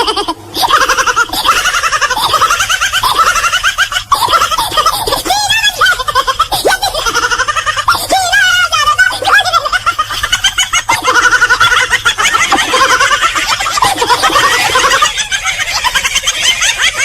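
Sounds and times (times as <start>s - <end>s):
high-pitched giggling: 0.0s - 17.0s.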